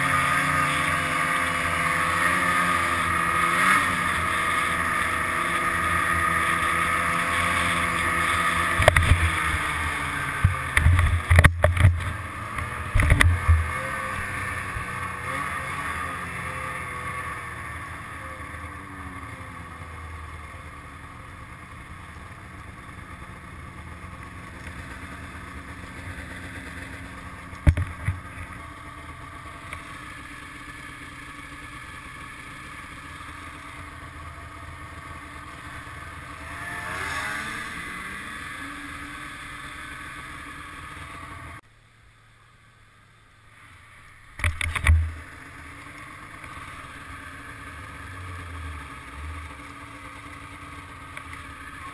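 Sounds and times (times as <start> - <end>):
snowmobile engine running: 0.0 - 41.6, 43.5 - 51.9.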